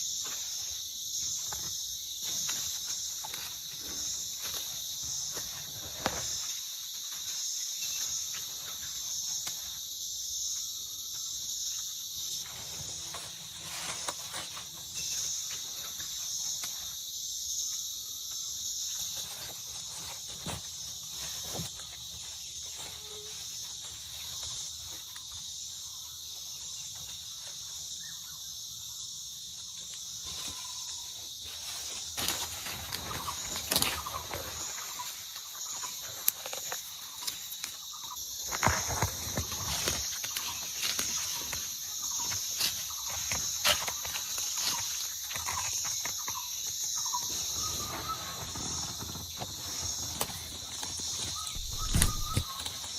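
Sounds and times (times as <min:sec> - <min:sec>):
jungle insects chorus: 0:00.0 - 0:52.9.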